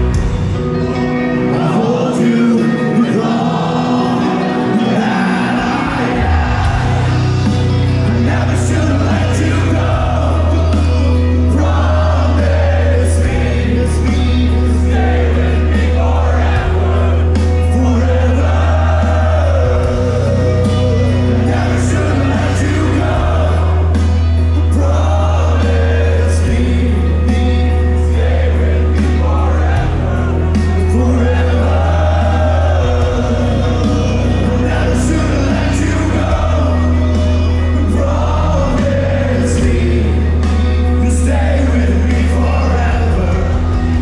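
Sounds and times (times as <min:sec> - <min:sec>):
crowd noise: 0:00.0 - 0:44.0
heavy bass notes: 0:00.0 - 0:44.0
metal band playing live: 0:00.0 - 0:44.0
person singing: 0:00.0 - 0:44.0.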